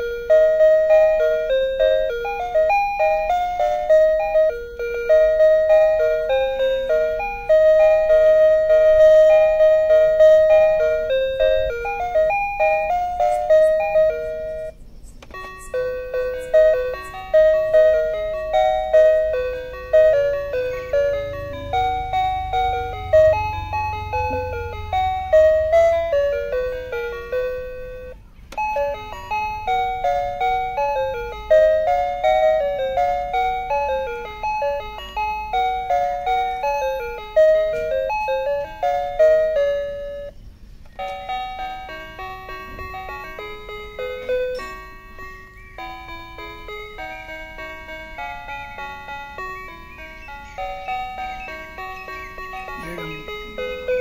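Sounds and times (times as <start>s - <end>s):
bright melody with steady beat: 0.0s - 54.0s.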